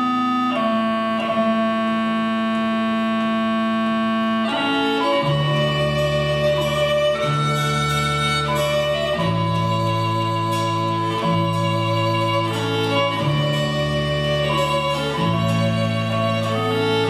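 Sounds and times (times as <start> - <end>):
folk band fiddle tune: 0.0 - 17.0
low held drone notes: 0.0 - 17.0.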